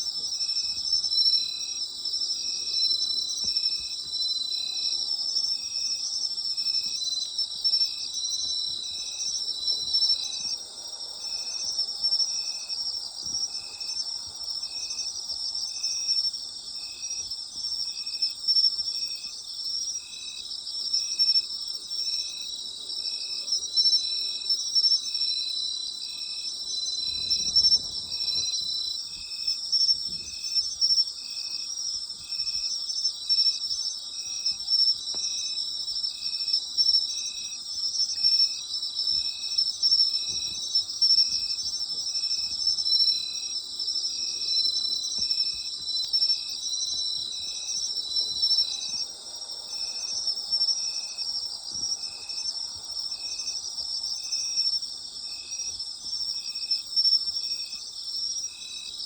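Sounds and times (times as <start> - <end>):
insect chirping: 0.0 - 59.0
insects trilling: 0.1 - 59.0.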